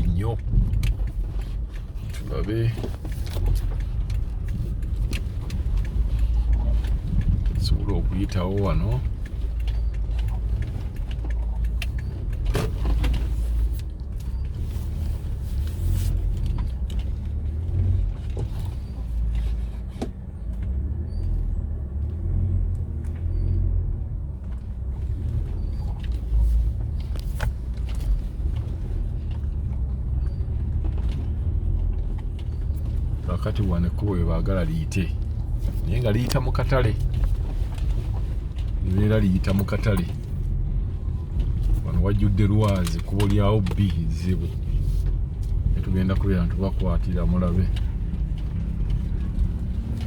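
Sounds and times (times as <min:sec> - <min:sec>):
vehicle rumbling on rough road: 0:00.0 - 0:50.0.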